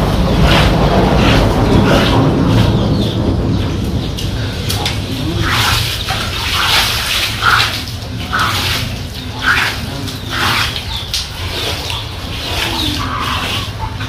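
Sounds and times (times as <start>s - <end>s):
bare feet splashing in water: 0.0s - 14.0s
low hum: 0.0s - 14.0s.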